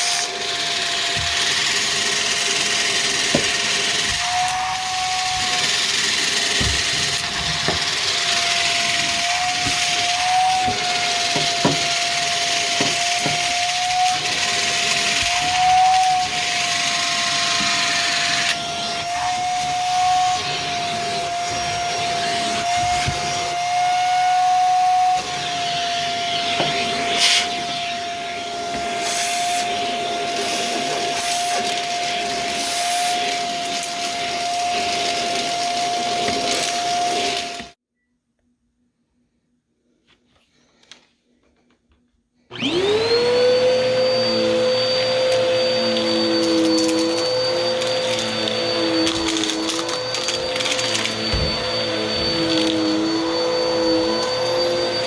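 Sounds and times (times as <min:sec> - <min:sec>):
vacuum cleaner running: 0:00.0 - 0:37.8, 0:42.5 - 0:55.0.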